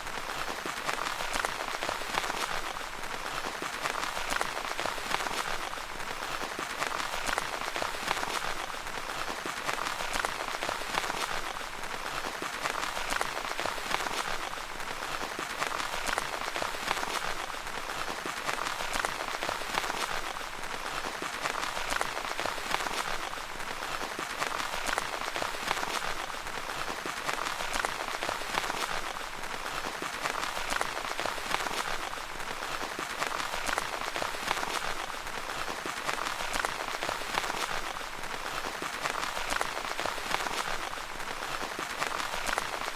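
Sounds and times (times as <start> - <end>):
rain pattering on tent fabric: 0.0 - 42.9.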